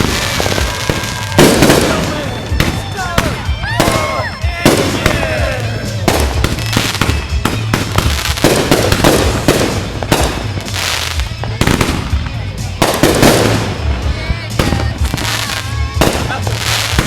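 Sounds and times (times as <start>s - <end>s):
fireworks bangs and crackles: 0.0s - 17.0s
whistling fireworks: 0.0s - 17.0s.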